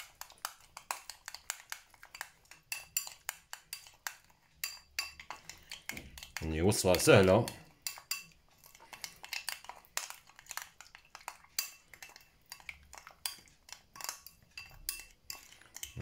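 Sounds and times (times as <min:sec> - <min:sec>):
metal spoon scraping glass bowl: 0:00.0 - 0:16.0.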